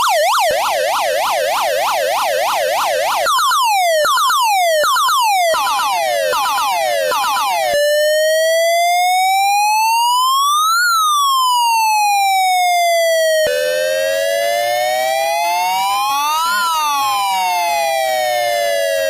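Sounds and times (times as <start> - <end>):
police siren: 0.0 - 19.0.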